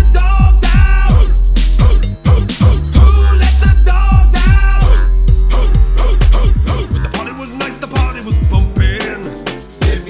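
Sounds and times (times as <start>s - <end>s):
hip-hop music with drum beat: 0.0s - 10.0s
vocal line: 0.0s - 10.0s.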